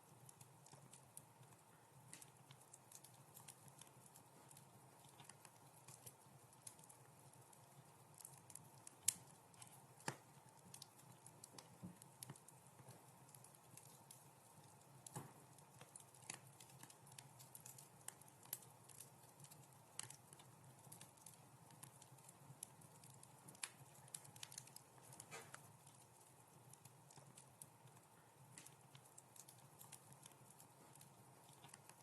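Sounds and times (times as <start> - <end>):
faint low background: 0.0 - 32.0
wood fire crackling: 0.0 - 32.0.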